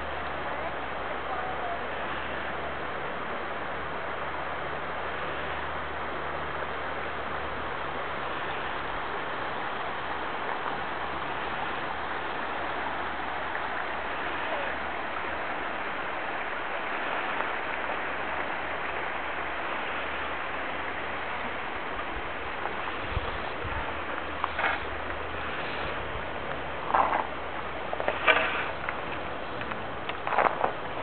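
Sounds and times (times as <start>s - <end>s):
creek rushing: 0.0s - 31.0s.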